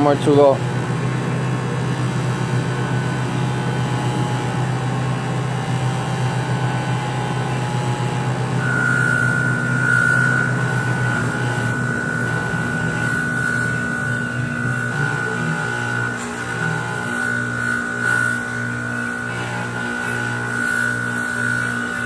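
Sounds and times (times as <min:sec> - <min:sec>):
bench grinder motor humming: 0:00.0 - 0:22.0
high whine of wire wheel: 0:00.0 - 0:22.0.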